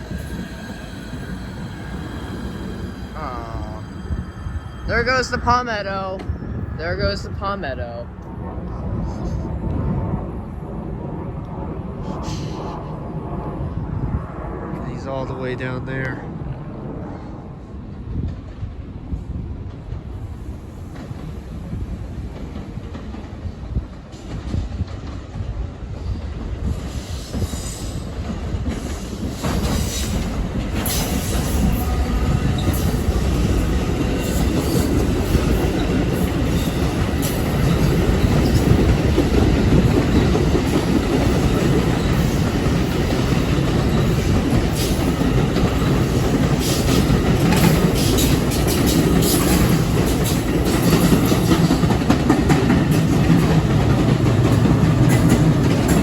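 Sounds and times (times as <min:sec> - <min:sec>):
train running past: 0:00.0 - 0:56.0.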